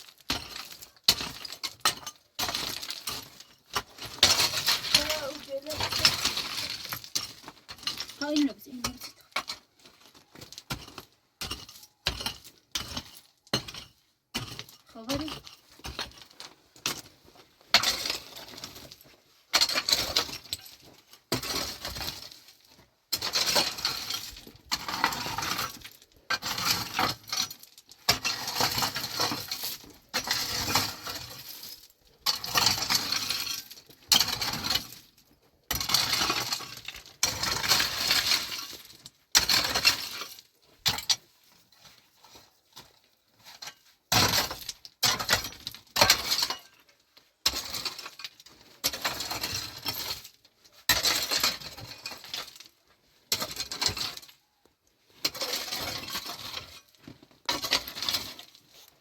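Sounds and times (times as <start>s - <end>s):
shovel scraping stony soil: 0.0s - 17.1s, 17.7s - 35.1s, 35.7s - 46.8s, 47.4s - 52.5s, 55.2s - 59.0s.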